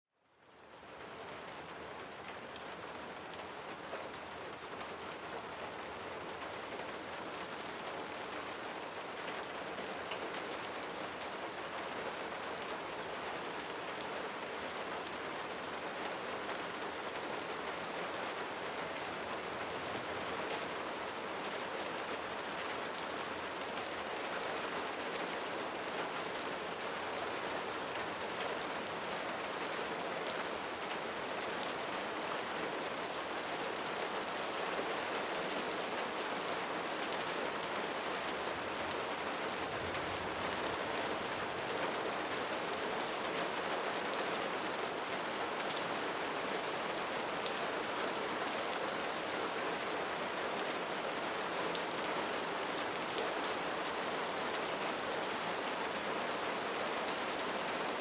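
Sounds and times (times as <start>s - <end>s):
steady rain falling: 0.2s - 58.0s.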